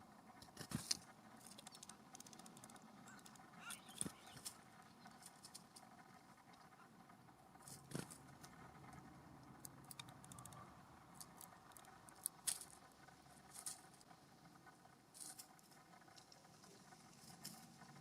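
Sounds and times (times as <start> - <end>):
birds pecking and hopping: 0.0 - 18.0.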